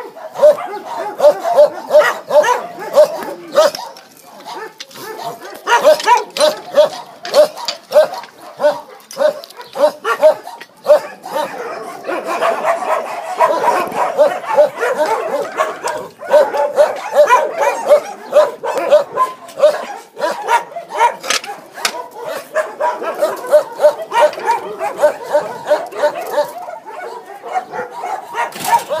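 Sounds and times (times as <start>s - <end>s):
many dogs barking: 0.0s - 29.0s.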